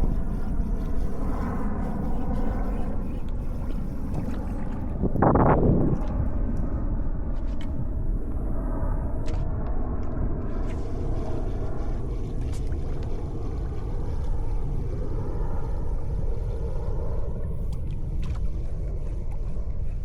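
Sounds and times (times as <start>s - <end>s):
water around a kayak: 0.0s - 20.0s
wind rumble: 0.0s - 20.0s.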